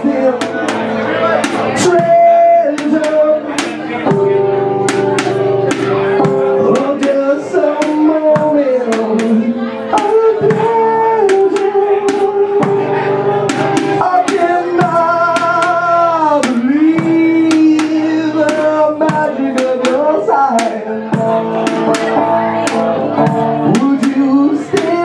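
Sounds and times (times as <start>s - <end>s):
person singing: 0.0s - 25.0s.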